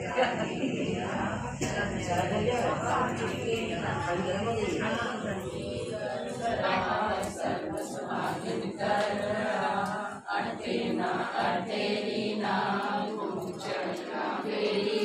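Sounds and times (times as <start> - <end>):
group of women singing: 0.0 - 15.0.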